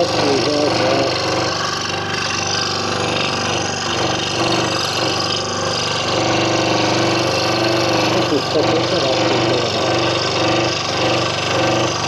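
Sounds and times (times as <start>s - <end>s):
scroll saw cutting wood: 0.0s - 12.0s.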